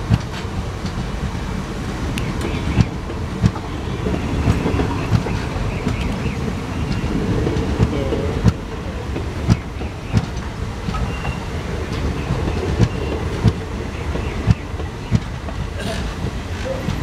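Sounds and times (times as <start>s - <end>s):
train wheels rumbling on rail: 0.0s - 17.0s
wheels clacking over rail joints: 0.0s - 17.0s.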